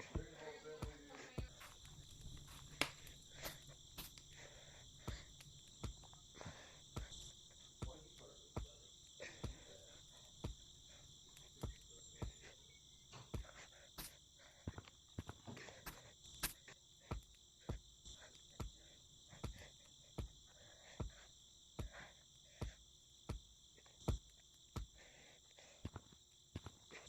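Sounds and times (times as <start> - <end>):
faint breaths: 0.0 - 27.0
high-pitched insect chorus: 0.0 - 27.0.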